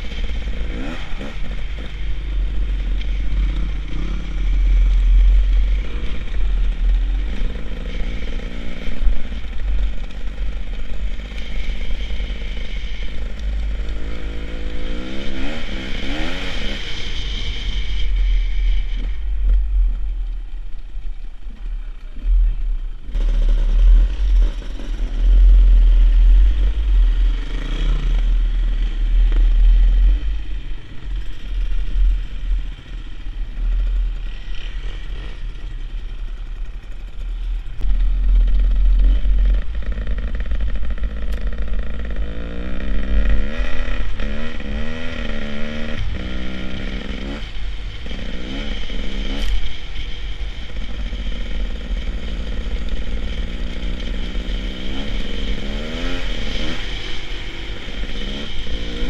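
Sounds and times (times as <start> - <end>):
dirt bike engine revving: 0.0 - 19.9, 22.2 - 59.0.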